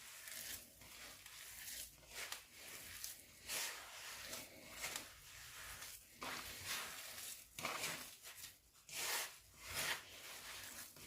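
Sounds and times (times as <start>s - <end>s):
dough squishing in a bowl: 0.0s - 11.0s.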